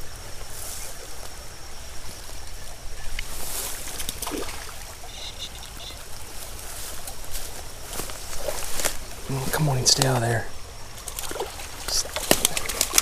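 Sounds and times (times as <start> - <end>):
creek trickling: 0.0 - 13.0.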